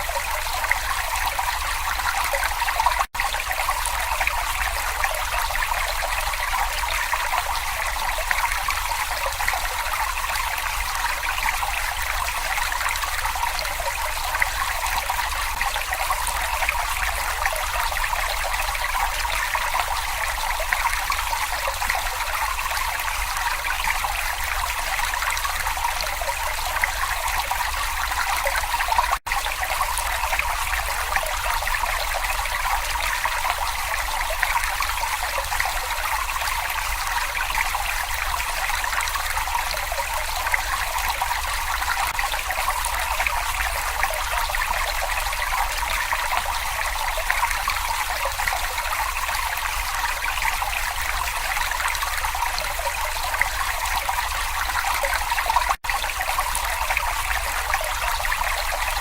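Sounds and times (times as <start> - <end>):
brook water babbling: 0.0 - 59.0.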